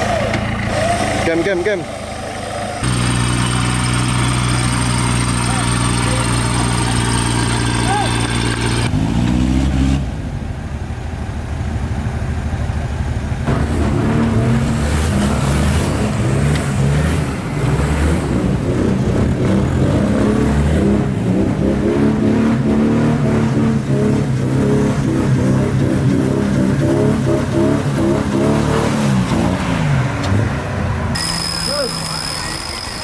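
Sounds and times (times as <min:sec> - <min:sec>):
off-road engines revving: 0:00.0 - 0:11.3, 0:12.0 - 0:33.0.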